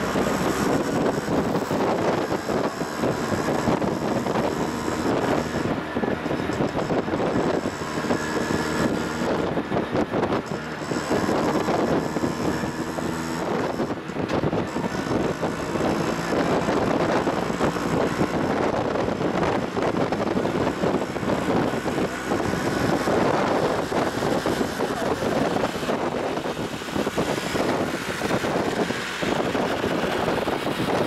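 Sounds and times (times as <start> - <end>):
road noise of vehicle driving: 0.0 - 31.0
wind buffeting microphone: 0.0 - 31.0.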